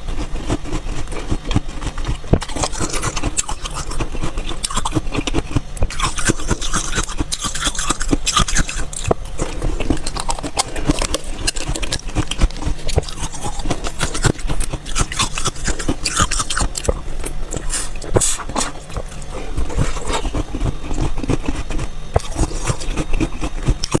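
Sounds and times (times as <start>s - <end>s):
chewing shaved ice: 0.0s - 24.0s.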